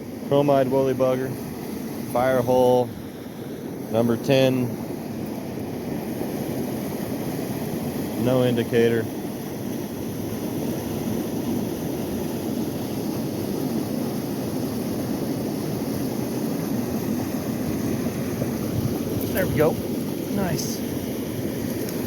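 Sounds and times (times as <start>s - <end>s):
river water rushing: 1.3s - 22.0s.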